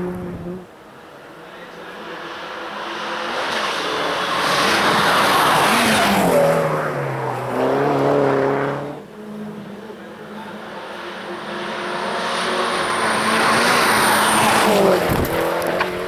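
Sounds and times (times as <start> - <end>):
race car passing at speed: 0.0 - 16.0.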